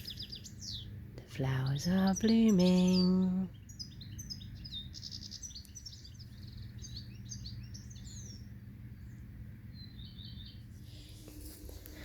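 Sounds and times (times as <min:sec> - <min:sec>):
songbirds chirping: 0:00.0 - 0:12.0
steady low rumble: 0:00.0 - 0:12.0.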